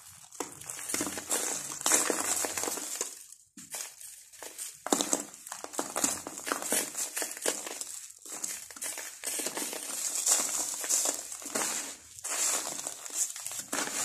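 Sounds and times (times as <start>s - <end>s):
grit crumbling between fingers: 0.2s - 14.0s
grit falling onto cardboard: 0.3s - 14.0s.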